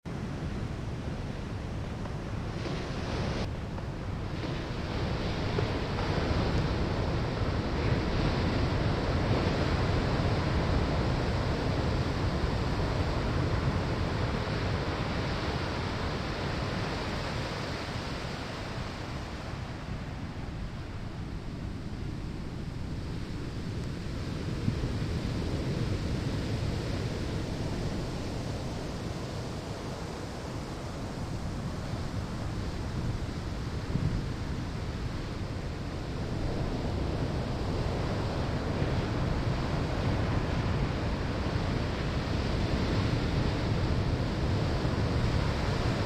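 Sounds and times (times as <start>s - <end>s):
ocean waves breaking on shore: 0.1s - 46.0s.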